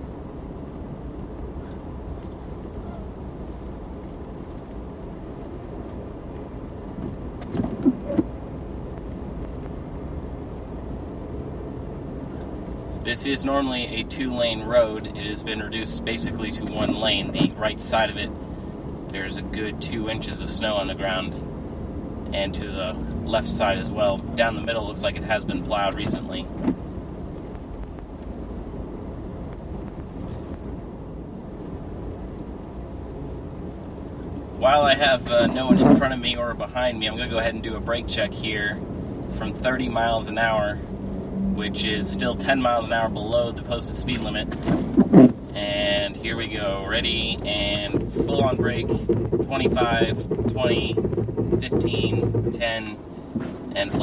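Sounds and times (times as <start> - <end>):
road and engine noise in car: 0.0 - 54.0.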